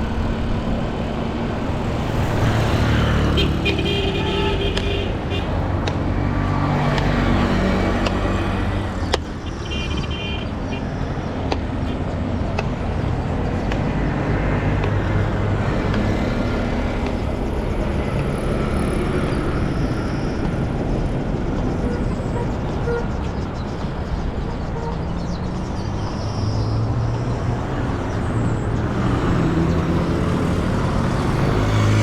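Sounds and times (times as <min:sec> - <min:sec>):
passing cars: 0:00.0 - 0:32.0.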